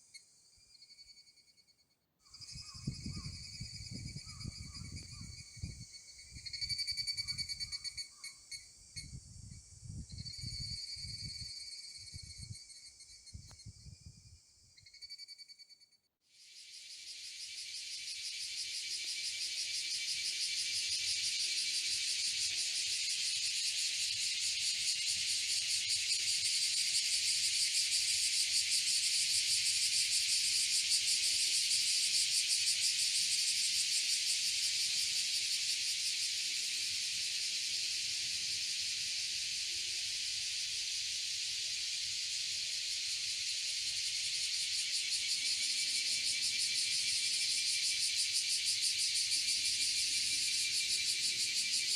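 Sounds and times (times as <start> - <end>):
insects chorus shrill pulsing: 2.3 - 9.3, 16.6 - 51.9.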